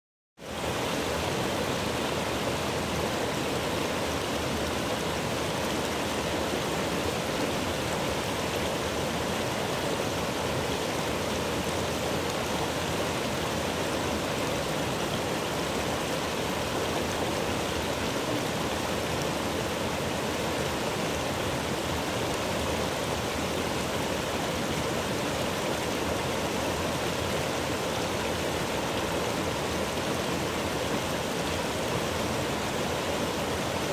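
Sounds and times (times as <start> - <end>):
stream rushing over boulders: 0.4 - 33.9.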